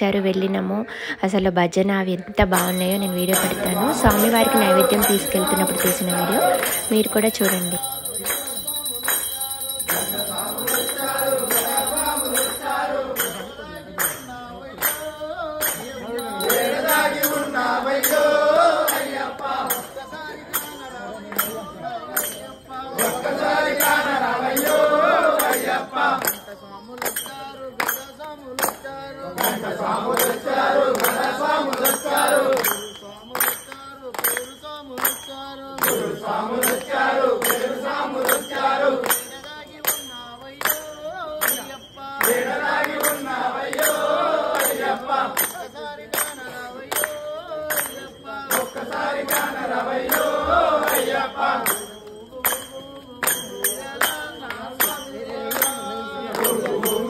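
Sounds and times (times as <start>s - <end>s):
voices singing devotional song: 0.0s - 57.0s
sharp percussion beat: 2.4s - 57.0s.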